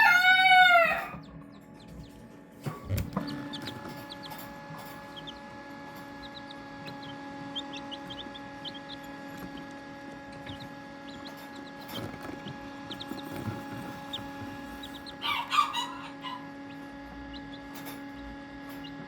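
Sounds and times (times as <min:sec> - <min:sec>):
chicks peeping: 0:00.0 - 0:19.0
steady hum: 0:01.1 - 0:19.0.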